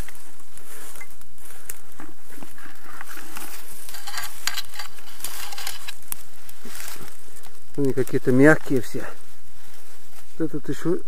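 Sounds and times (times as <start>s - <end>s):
leaves and twigs crackling: 0.0s - 11.0s.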